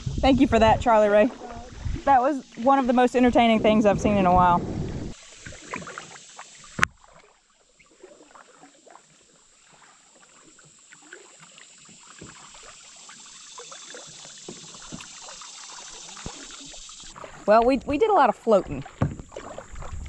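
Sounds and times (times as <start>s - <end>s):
water trickling: 0.0s - 20.0s.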